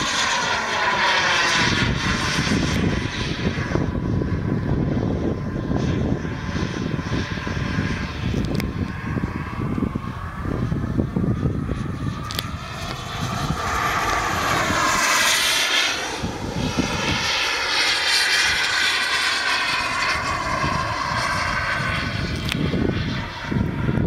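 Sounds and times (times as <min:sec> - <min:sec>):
model jet turbine whoosh: 0:00.0 - 0:24.0.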